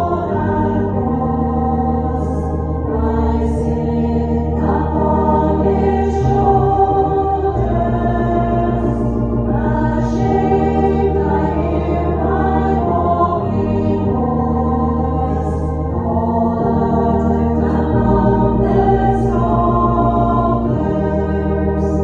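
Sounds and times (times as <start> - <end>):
steady bass notes: 0.0 - 22.0
voices singing a slow hymn: 0.0 - 22.0.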